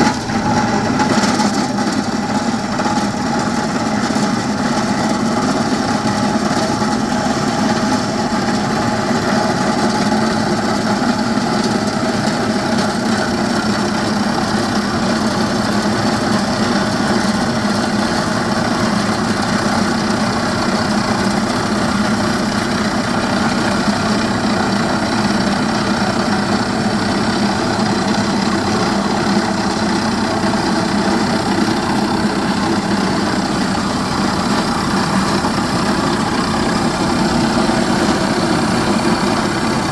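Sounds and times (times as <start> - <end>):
rock drilling rig running: 0.0 - 39.9.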